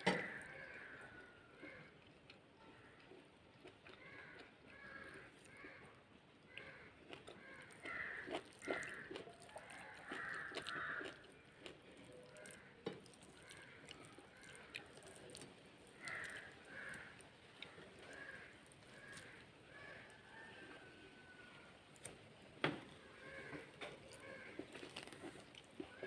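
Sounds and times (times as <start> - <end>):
crows cawing: 0.0 - 22.1, 22.7 - 26.0.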